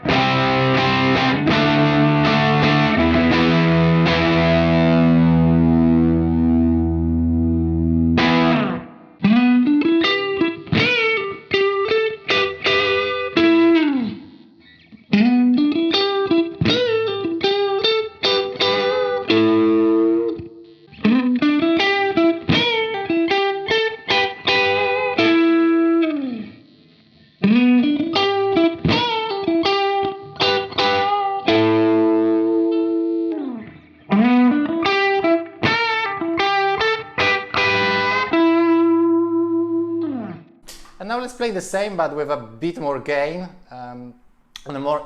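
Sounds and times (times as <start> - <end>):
overdriven electric guitar licks: 0.0 - 45.0.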